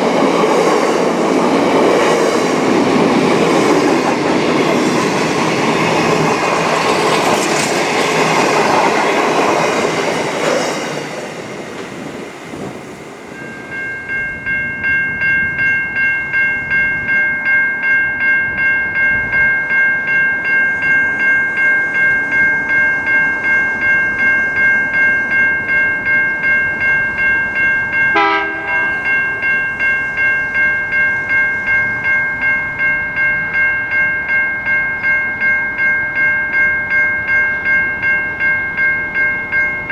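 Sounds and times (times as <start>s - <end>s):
railway warning bell ringing: 0.0s - 39.9s
train passing: 0.0s - 39.9s.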